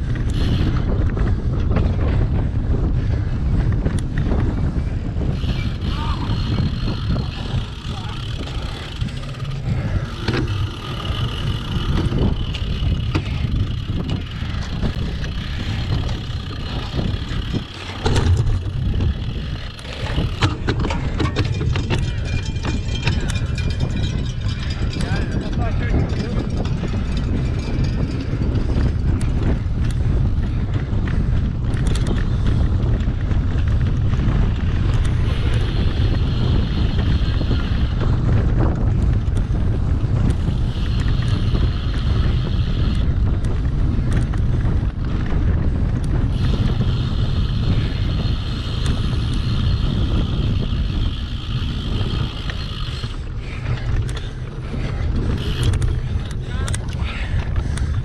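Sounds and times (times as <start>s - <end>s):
bike tyres rumbling: 0.0s - 58.0s
wind buffeting microphone: 0.0s - 58.0s.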